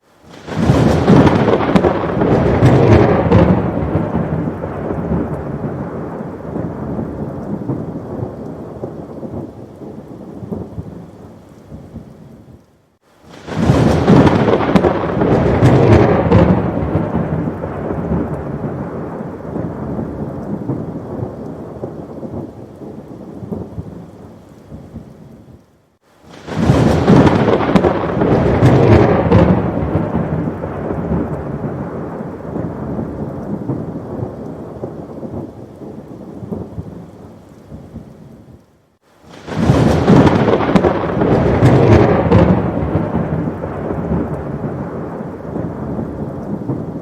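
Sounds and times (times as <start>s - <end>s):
rain falling: 0.0s - 47.0s
thunder cracking and rumbling: 0.2s - 12.1s, 13.2s - 24.1s, 26.3s - 38.4s, 39.2s - 47.0s.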